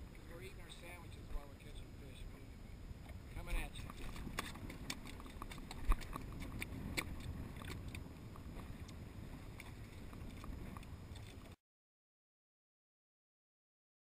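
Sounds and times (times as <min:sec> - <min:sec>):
low rumble of wind and water: 0:00.0 - 0:11.6.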